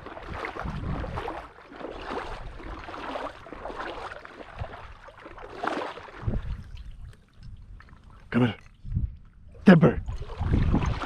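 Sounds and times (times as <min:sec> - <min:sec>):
legs splashing through water: 0:00.0 - 0:09.2, 0:10.0 - 0:11.0.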